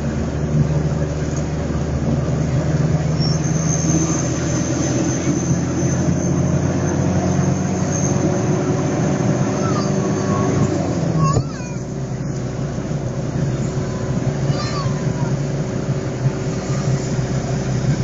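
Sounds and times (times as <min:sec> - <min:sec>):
vehicle engine and road hum: 0:00.0 - 0:18.0.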